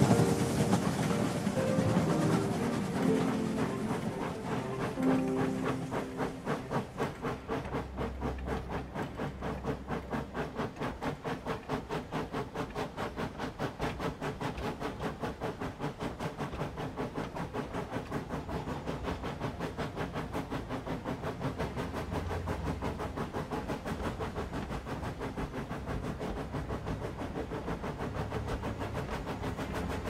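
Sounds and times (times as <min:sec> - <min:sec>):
steam hiss: 0:00.0 - 0:30.0
steam train chuffing: 0:00.0 - 0:30.0
train low rumble: 0:00.0 - 0:30.0.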